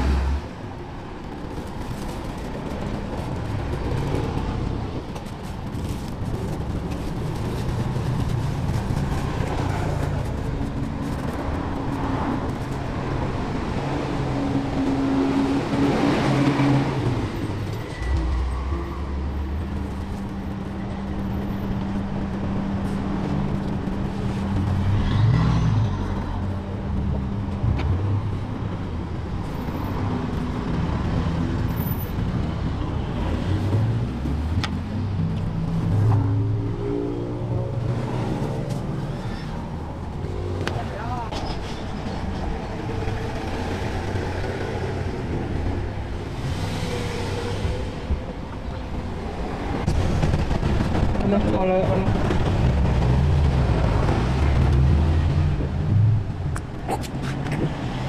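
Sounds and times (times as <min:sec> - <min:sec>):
vehicle engines running: 0:00.0 - 0:58.0.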